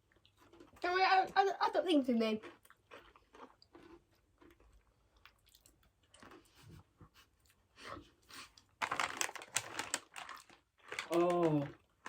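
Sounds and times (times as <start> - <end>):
crunching and chewing: 0.0 - 1.4, 2.1 - 12.0.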